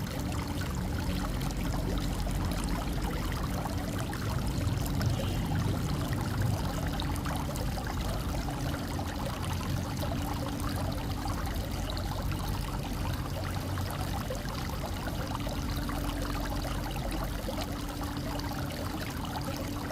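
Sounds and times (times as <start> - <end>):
fountain water splashing: 0.0 - 19.9.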